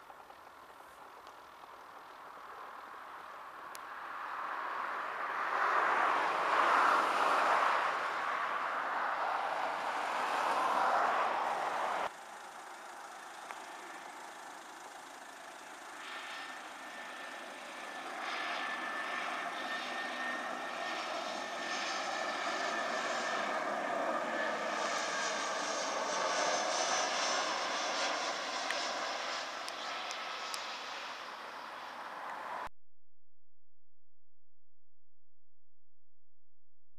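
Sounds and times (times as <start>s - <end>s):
jet airliner passing overhead: 0.8s - 32.7s.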